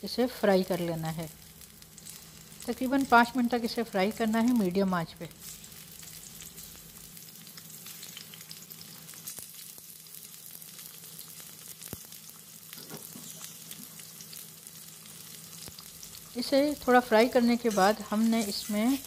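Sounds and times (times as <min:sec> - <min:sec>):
meat sizzling in hot oil: 0:00.0 - 0:19.0.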